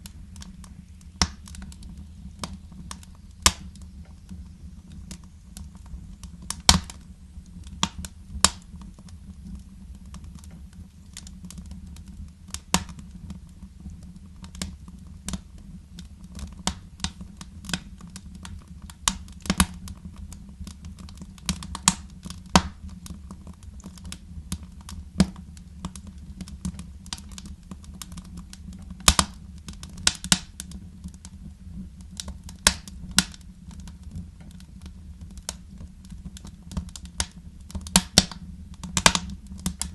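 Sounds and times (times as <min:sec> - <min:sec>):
fire crackling and popping: 0:00.0 - 0:39.9
low steady rumble: 0:00.0 - 0:39.9.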